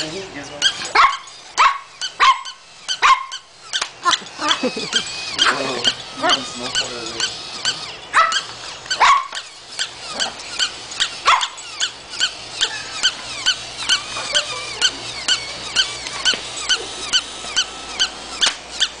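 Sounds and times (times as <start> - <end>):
toy dog yapping: 0.6 - 19.0.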